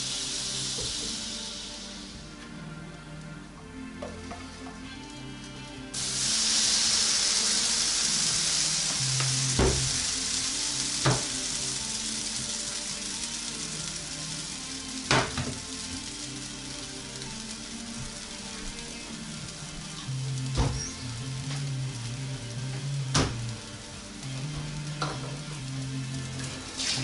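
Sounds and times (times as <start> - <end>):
batter sizzling in a frying pan: 0.0 - 3.5, 4.8 - 27.0.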